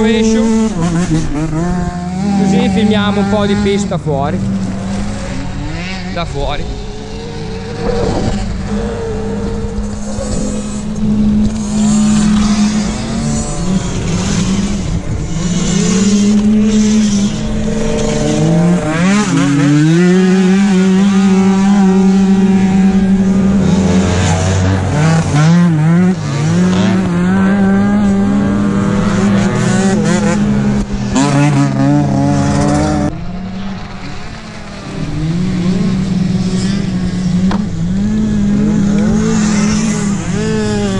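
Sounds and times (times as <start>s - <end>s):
two-stroke scooter engines revving: 0.0s - 40.9s.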